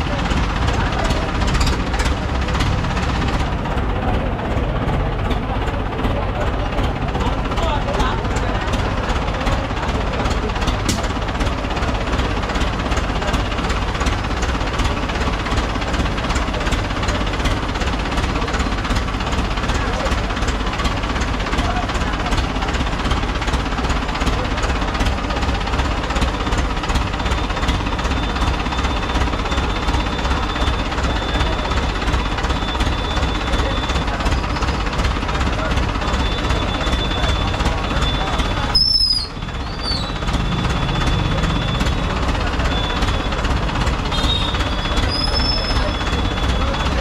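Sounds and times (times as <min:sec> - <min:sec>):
many voices: 0:00.0 - 0:47.0
rapid pounding: 0:00.0 - 0:47.0
vehicle engine running: 0:00.0 - 0:47.0.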